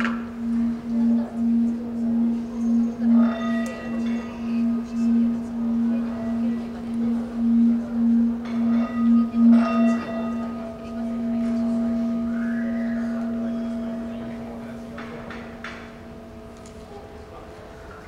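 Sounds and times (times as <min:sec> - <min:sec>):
deep ringing metal tone: 0:00.0 - 0:18.0.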